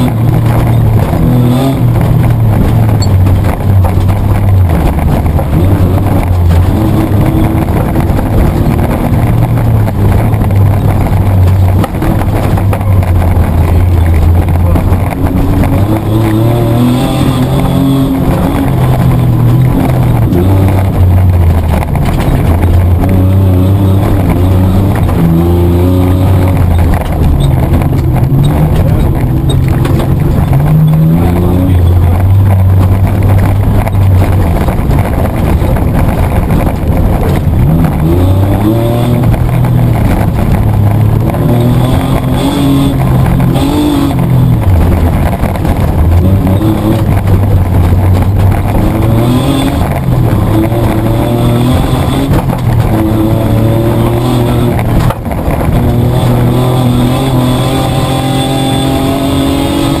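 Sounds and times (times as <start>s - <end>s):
engine revving: 0.0s - 60.0s.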